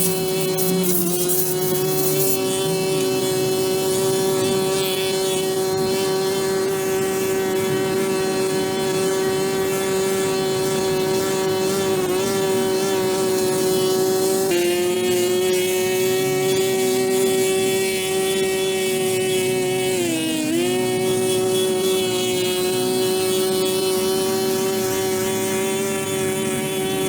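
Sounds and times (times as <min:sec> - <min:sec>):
small motor running at high pitch: 0:00.0 - 0:27.0.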